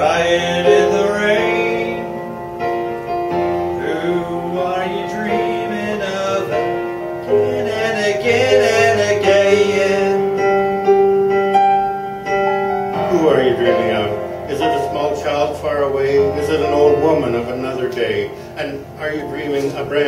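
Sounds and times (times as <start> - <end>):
slow piano notes and chords: 0.0 - 20.0.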